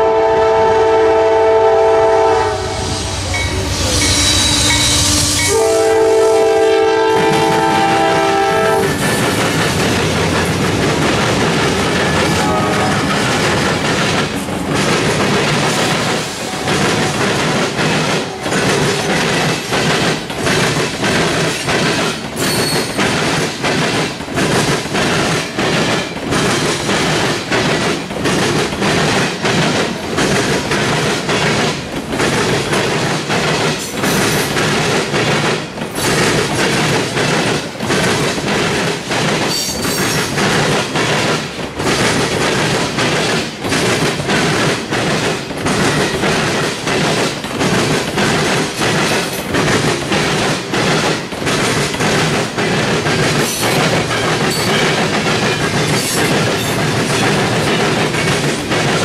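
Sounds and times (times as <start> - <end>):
wheels clattering over rail joints: 7.3 - 59.0.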